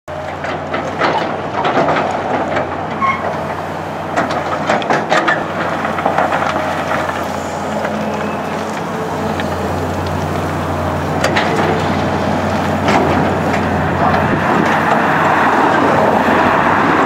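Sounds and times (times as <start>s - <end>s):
excavator diesel engine running: 0.1s - 17.0s.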